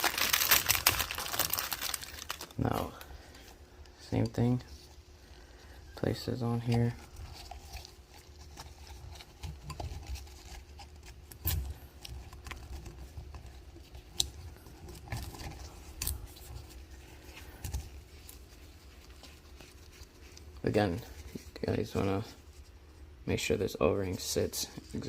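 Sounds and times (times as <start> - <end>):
soft plastic rubbing: 0.0 - 23.3.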